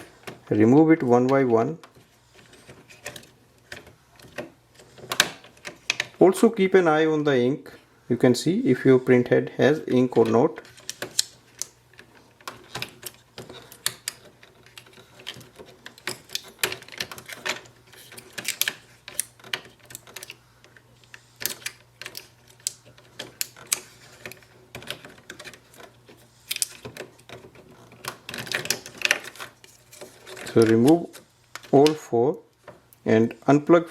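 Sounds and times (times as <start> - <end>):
plastic and metal parts clicking: 1.2 - 6.2, 10.2 - 33.0.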